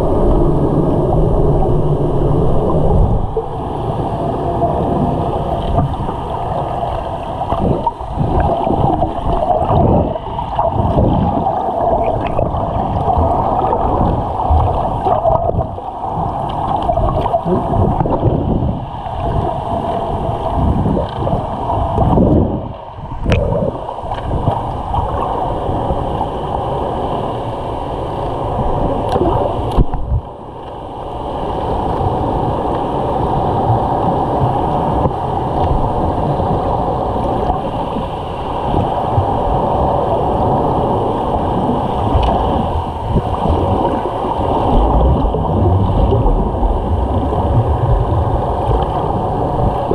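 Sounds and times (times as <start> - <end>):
steady hum: 0.0 - 49.9
underwater rushing water: 0.0 - 49.9.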